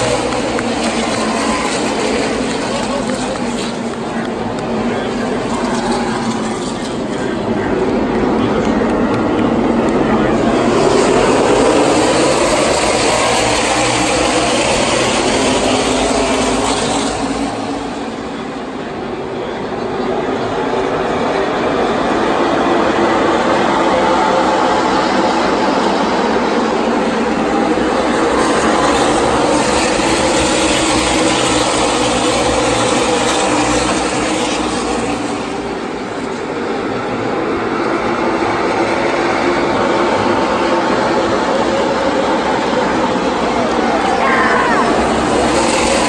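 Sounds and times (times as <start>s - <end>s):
race cars roaring past: 0.0s - 46.0s.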